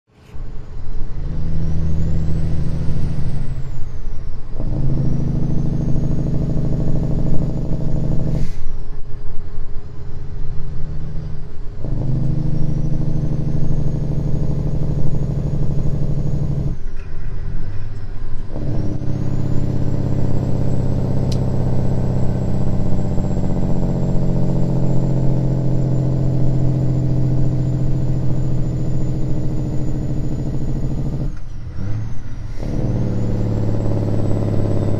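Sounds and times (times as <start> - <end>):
diesel truck engine: 0.1 - 34.9
faint whine: 0.1 - 34.9.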